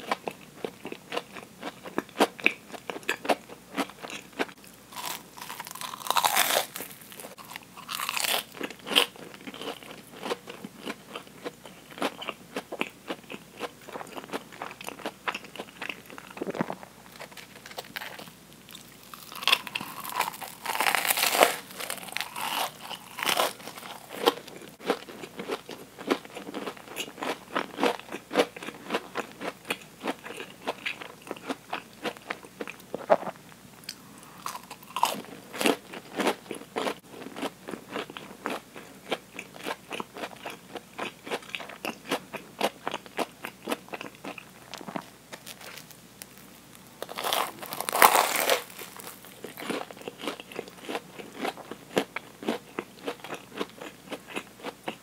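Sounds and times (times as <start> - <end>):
crunching fried food: 0.0 - 55.0.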